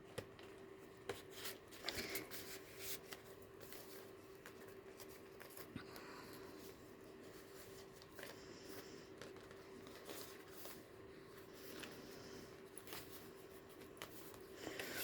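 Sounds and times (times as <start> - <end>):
paper pages rustling: 0.0 - 15.0.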